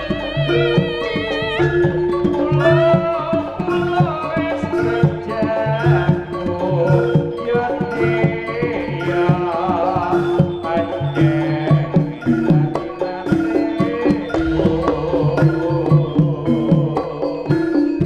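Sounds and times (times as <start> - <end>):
gliding melodic line: 0.0 - 18.0
hand drums beating: 0.0 - 18.0
tuned percussion notes: 0.0 - 18.0.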